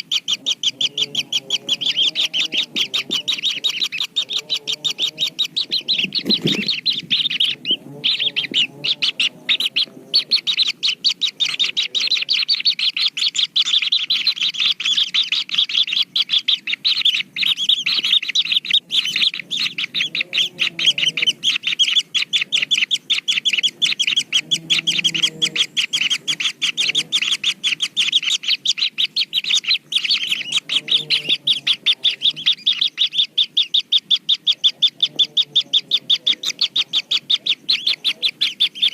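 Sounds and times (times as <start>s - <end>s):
fainter lower bird calls: 0.0s - 38.9s
kingfishers chirping: 0.0s - 38.9s.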